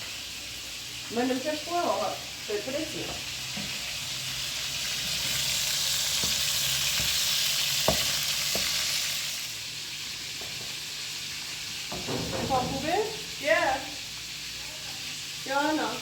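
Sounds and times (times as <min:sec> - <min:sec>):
meat sizzling: 0:00.0 - 0:16.0.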